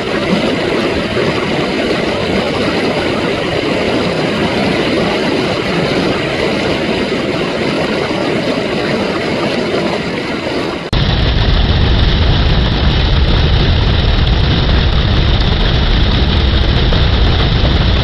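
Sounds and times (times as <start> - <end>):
reversed rushing water: 0.0 - 18.0.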